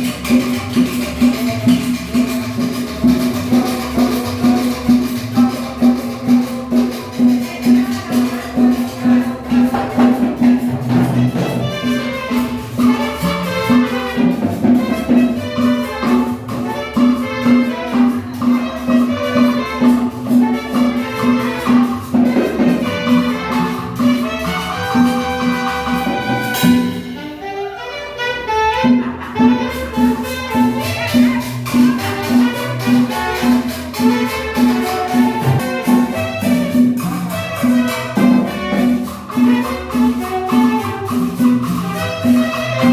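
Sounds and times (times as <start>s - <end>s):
salsa music with brass: 0.0s - 42.9s.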